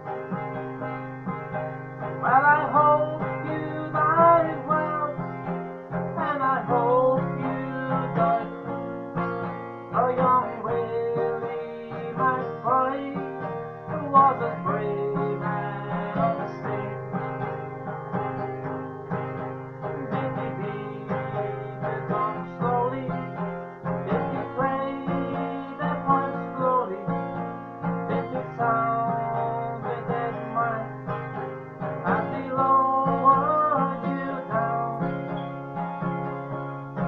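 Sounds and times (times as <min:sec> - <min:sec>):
acoustic guitar strumming: 0:00.0 - 0:37.0
man singing folk ballad: 0:00.0 - 0:37.0.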